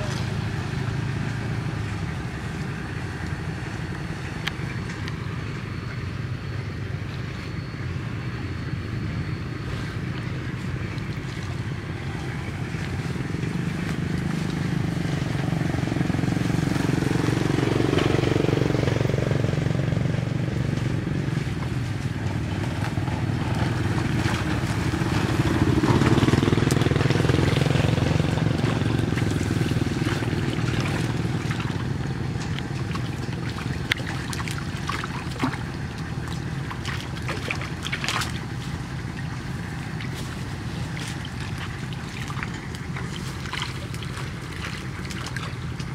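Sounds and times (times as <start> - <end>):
vehicle engine passing: 0.0 - 45.9.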